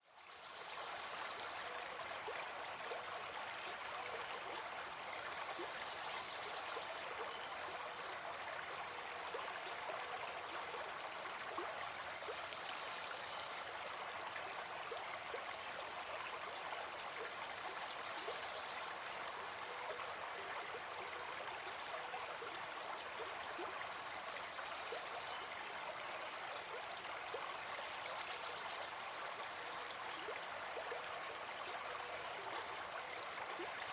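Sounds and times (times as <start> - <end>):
stream babbling: 0.2 - 33.9.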